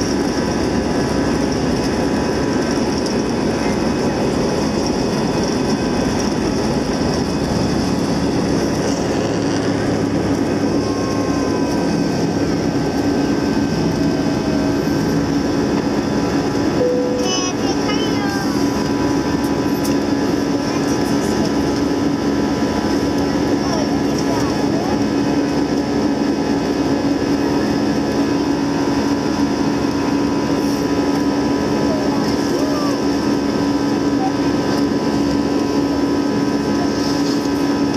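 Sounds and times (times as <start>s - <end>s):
jet engines rumbling: 0.0s - 37.9s.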